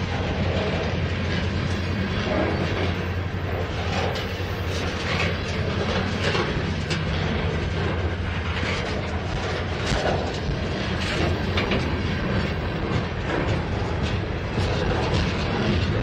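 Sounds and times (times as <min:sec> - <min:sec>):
train wheels rumbling on rails: 0:00.0 - 0:16.0
wheels clicking and clacking: 0:00.0 - 0:16.0.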